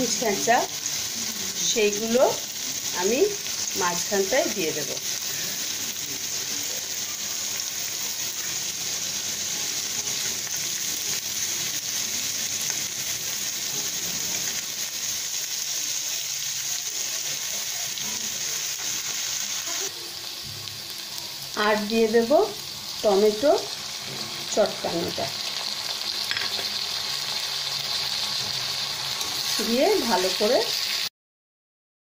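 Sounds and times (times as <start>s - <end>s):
vegetables sizzling in hot oil: 0.0s - 31.1s.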